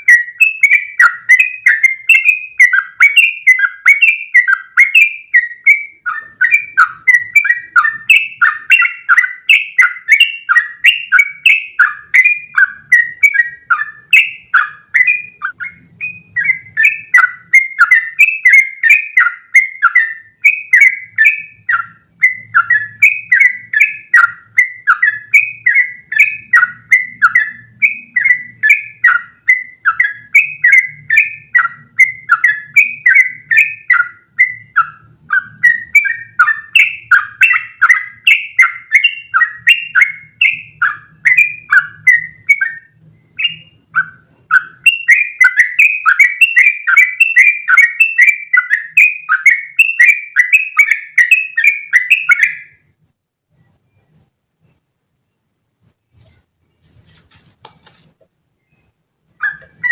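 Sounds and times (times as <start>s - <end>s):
bird chattering song: 0.0s - 52.9s, 57.8s - 59.9s.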